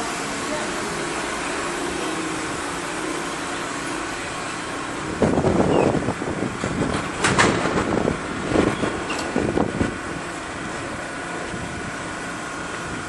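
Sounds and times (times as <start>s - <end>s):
train and station hum: 0.0s - 13.0s.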